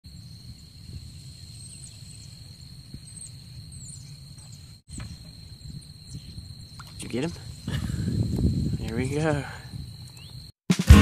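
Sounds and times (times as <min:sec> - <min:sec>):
high falling bird chirps: 0:00.1 - 0:08.8, 0:09.7 - 0:10.5
wind rumble on microphone: 0:00.1 - 0:10.5.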